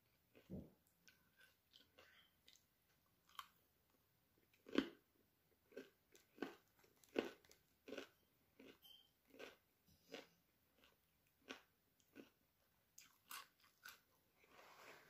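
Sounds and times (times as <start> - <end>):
person chewing crunchy food: 0.2 - 3.6, 4.4 - 15.0.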